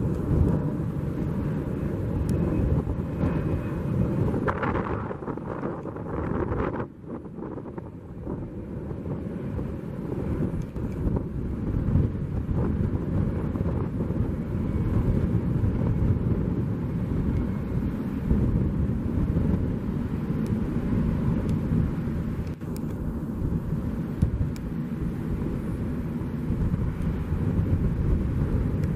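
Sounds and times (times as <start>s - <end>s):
jet engines rumbling: 0.0s - 28.9s.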